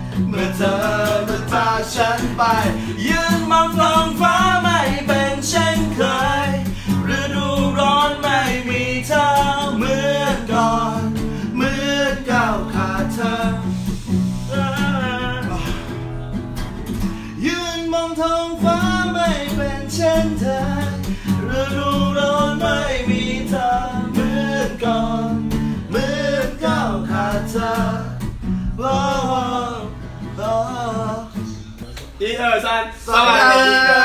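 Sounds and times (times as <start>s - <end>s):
man singing: 0.0s - 31.9s
acoustic guitar chords: 0.0s - 32.0s.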